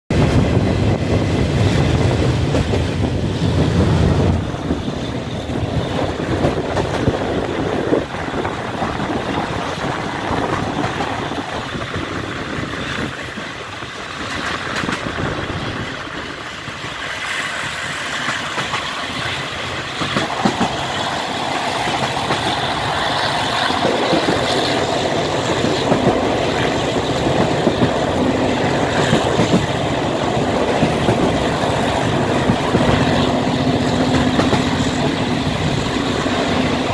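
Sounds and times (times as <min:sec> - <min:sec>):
train wheels rushing on rail: 0:00.1 - 0:36.9
wind rushing: 0:00.1 - 0:36.9.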